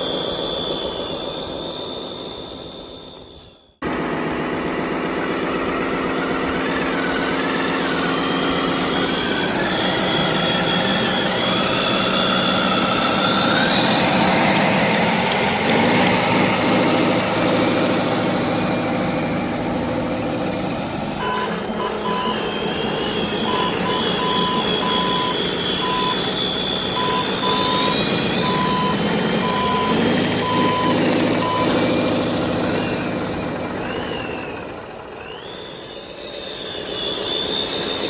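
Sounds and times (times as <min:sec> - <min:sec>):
electric motors whining: 0:00.0 - 0:38.0.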